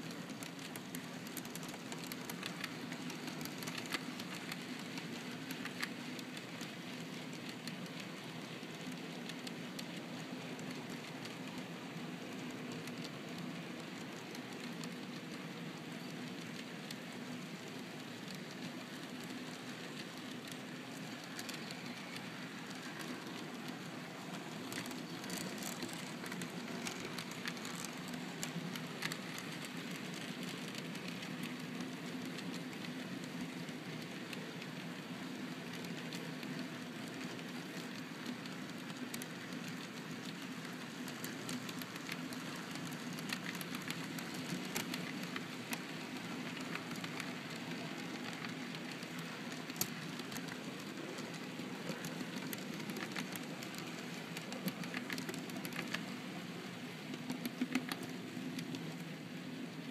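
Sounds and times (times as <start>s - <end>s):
model train rolling rumble: 0.0s - 59.8s
wheels clicking on rails: 0.0s - 59.9s.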